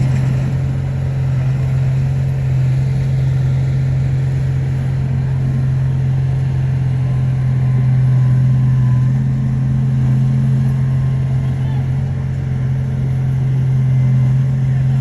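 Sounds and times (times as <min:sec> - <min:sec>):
bulldozer diesel engine: 0:00.0 - 0:15.0.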